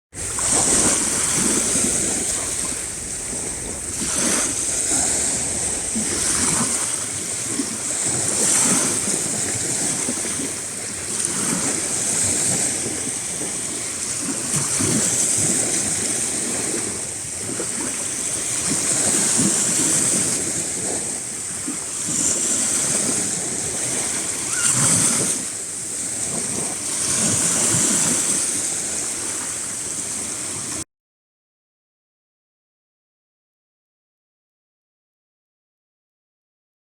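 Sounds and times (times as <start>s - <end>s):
waves breaking on shore: 0.2s - 30.8s.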